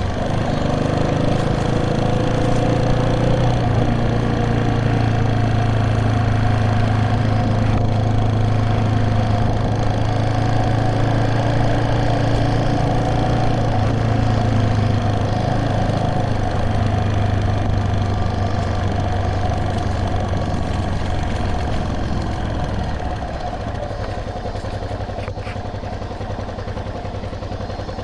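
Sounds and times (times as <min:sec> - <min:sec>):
vehicle engine running at low revs: 0:00.0 - 0:28.0.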